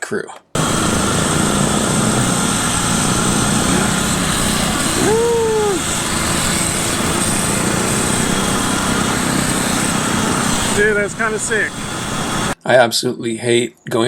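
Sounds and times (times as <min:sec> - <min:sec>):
rising and falling tone: 0:00.6 - 0:12.6
wind noise: 0:00.6 - 0:12.6.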